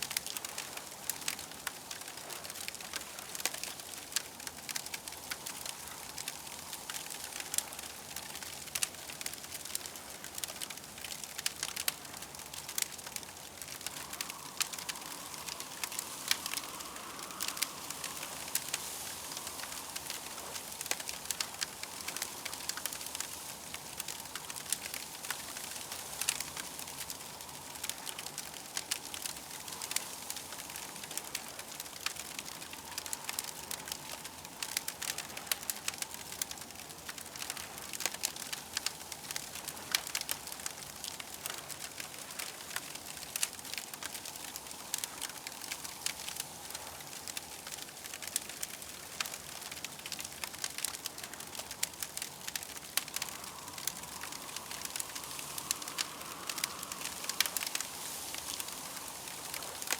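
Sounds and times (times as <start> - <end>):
campfire crackling: 0.0 - 59.9
soft fire hiss: 0.0 - 59.9.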